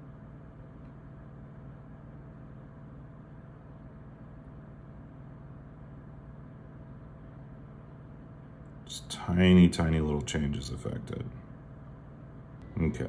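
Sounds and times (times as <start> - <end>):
low room tone hum: 0.0 - 13.0.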